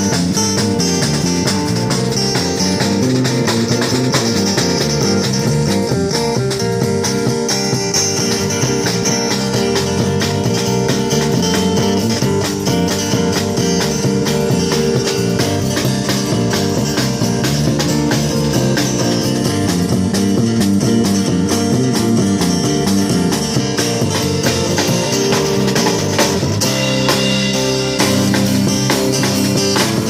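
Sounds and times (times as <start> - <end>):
live band with guitars and drums: 0.0 - 30.0.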